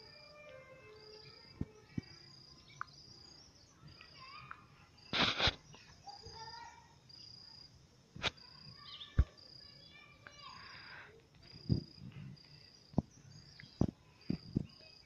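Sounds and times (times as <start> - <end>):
faint bird chirps: 0.0 - 15.0
insect chirping: 0.0 - 15.0.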